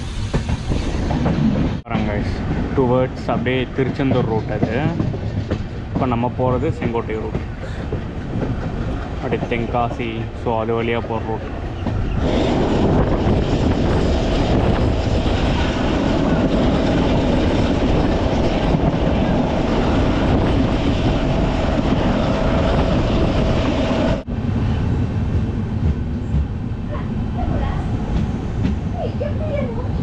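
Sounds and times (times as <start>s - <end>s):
train wheels rushing on rails: 0.0s - 30.0s.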